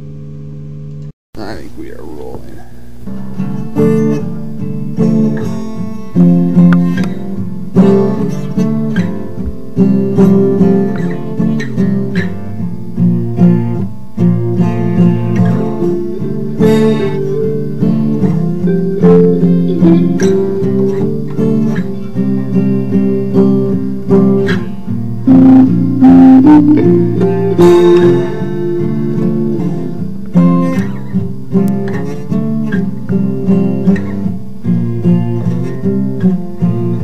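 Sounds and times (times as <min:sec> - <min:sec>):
acoustic guitar blues jam: 0:01.4 - 0:37.0.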